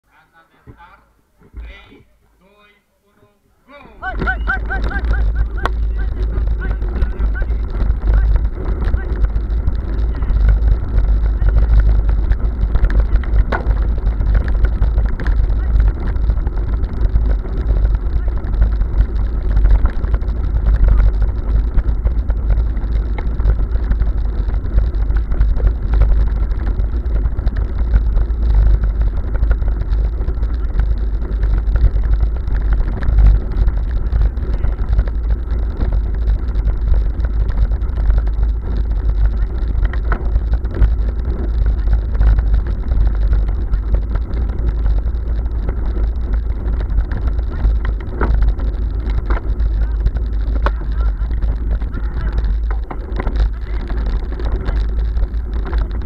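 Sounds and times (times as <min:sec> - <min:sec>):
bicycle rattling on cobblestones: 0:03.8 - 0:56.0
wind buffeting microphone: 0:03.9 - 0:56.0.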